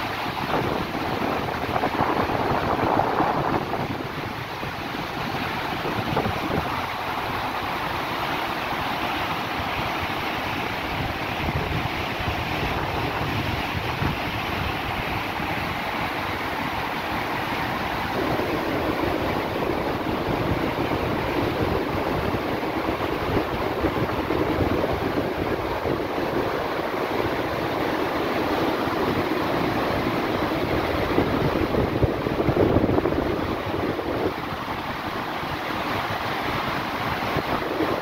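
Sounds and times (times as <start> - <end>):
wind buffeting microphone: 0.0 - 8.8, 9.5 - 38.0
ship wake churning: 0.0 - 38.0.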